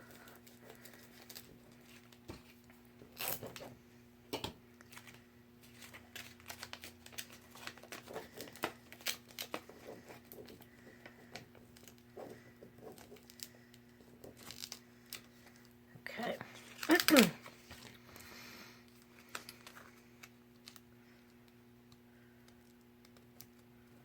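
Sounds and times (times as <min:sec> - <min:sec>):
paper crinkling: 0:00.0 - 0:03.7, 0:04.8 - 0:15.7, 0:16.4 - 0:21.3.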